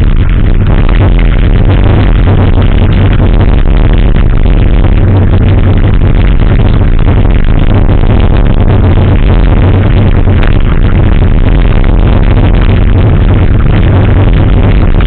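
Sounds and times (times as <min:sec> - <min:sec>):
electronic dance music with heavy bass: 0:00.0 - 0:15.0.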